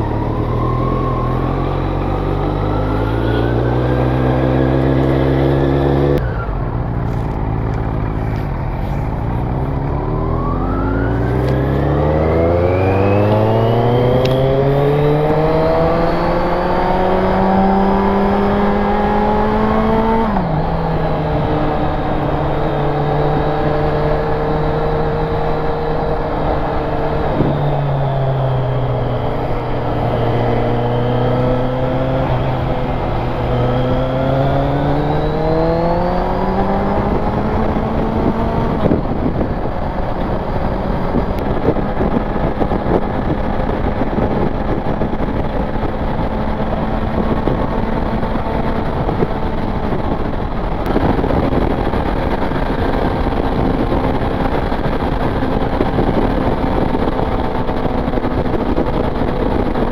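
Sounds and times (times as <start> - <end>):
motorcycle engine: 0.0 - 59.9
wind and road rush: 0.0 - 59.9.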